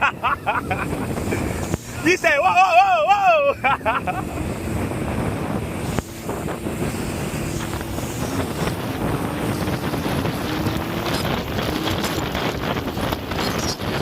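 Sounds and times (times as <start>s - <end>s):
jet ski engine running: 0.0s - 14.0s
rushing water: 0.0s - 14.0s
wind buffeting microphone: 0.0s - 14.0s.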